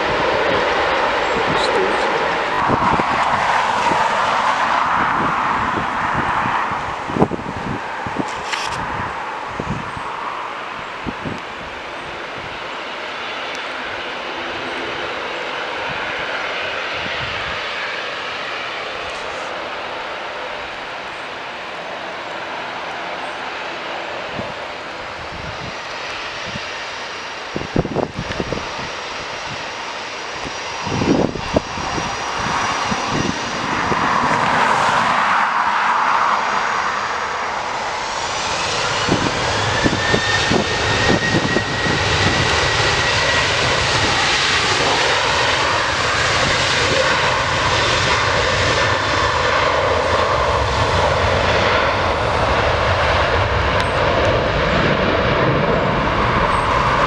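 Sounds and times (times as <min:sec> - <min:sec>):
wind gusts on microphone: 0:00.0 - 0:21.1, 0:22.3 - 0:57.0
jet engines spooling up: 0:00.0 - 0:57.0.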